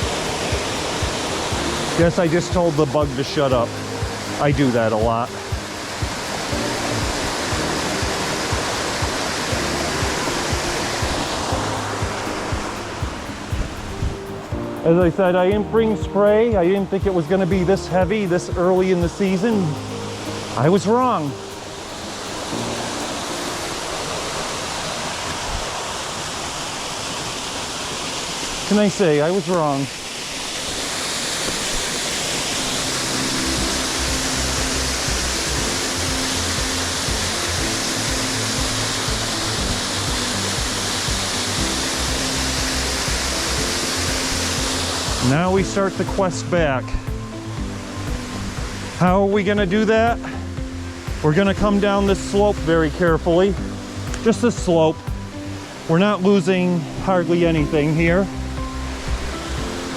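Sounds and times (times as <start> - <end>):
soft background music: 0.0 - 59.9
waterfall rushing: 0.0 - 59.9.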